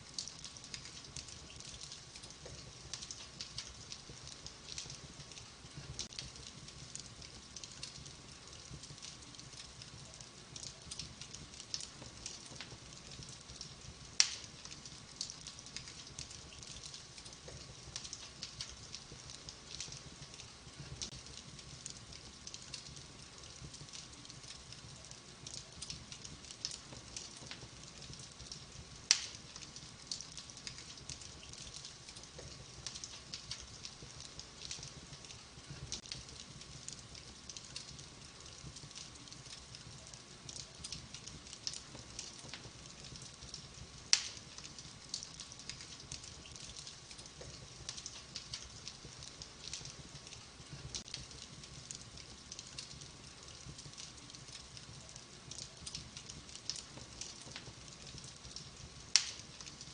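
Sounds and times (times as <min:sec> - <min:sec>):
fire crackling: 0:00.0 - 0:59.9.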